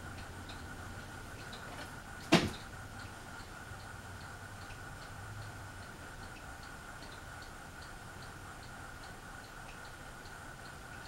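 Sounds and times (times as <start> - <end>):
ceiling fans humming: 0.0 - 11.0
light fan ticking: 0.0 - 11.0
thin fan whine: 0.0 - 11.0.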